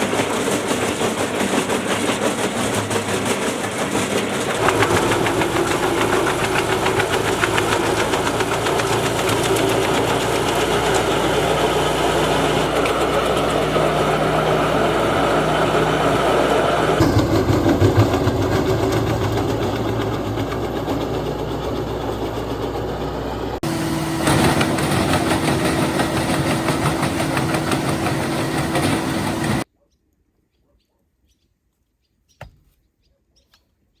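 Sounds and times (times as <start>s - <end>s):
wood chipper running: 0.0s - 29.6s.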